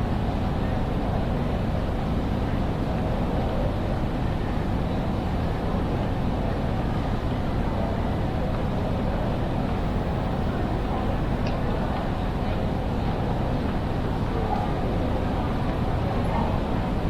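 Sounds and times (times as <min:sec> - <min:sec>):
railway station hall hum: 0:00.0 - 0:17.0.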